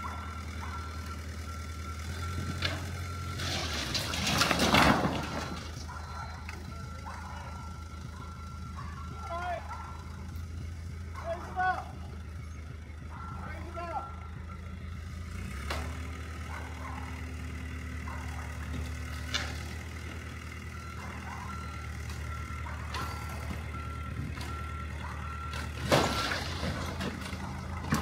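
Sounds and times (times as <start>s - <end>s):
diesel loader engine running: 0.0s - 28.0s
reversing alarm beeping: 0.0s - 28.0s.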